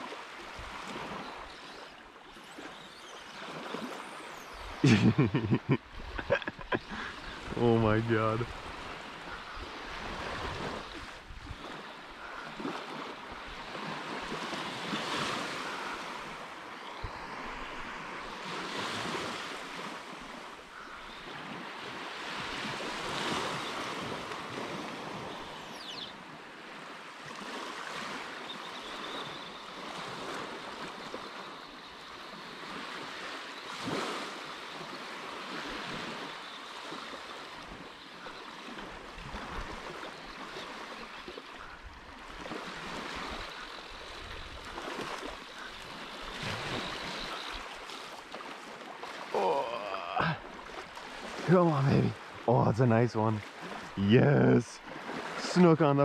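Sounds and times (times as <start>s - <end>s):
small waves lapping on sand: 0.0s - 56.0s.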